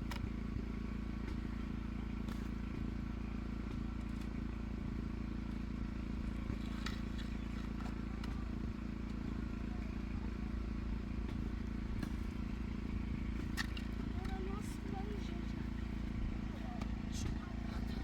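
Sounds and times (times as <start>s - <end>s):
engine running at low speed: 0.0s - 18.0s.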